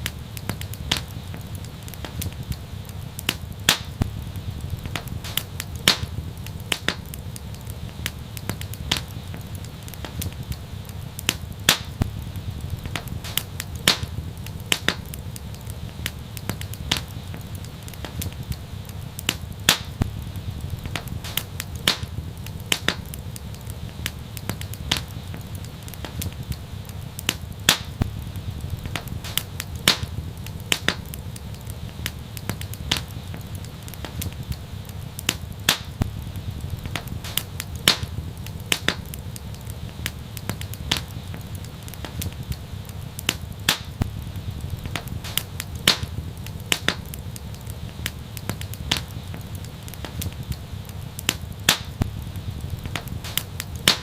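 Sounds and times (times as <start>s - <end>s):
low rumble of flames: 0.0s - 54.0s
wood fire snapping and popping: 0.0s - 54.0s.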